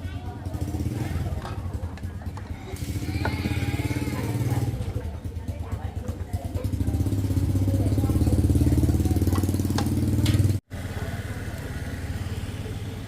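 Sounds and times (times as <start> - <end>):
small engine running: 0.1 - 13.0.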